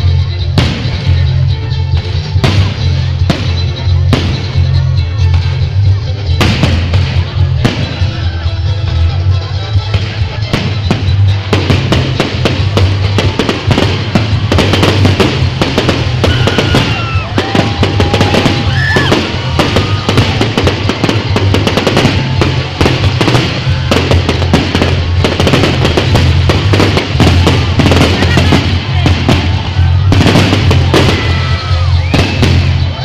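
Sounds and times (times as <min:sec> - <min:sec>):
fireworks bangs and crackling: 0:00.0 - 0:33.0
music playing: 0:00.0 - 0:33.0.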